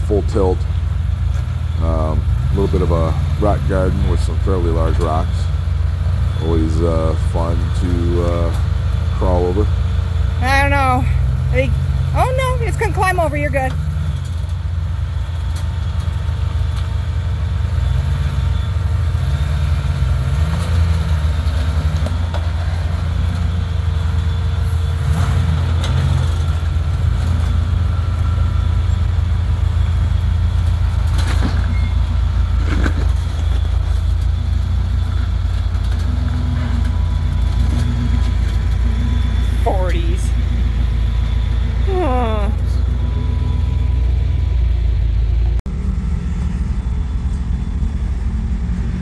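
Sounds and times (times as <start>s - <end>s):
car engine running at low revs: 0.0s - 49.0s.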